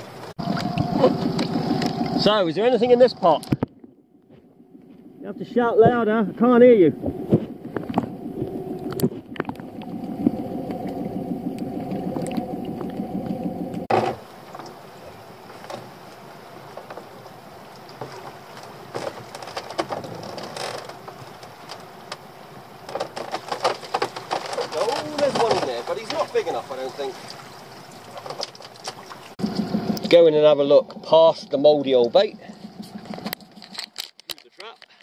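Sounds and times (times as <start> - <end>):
low underwater hum: 0.0 - 34.2.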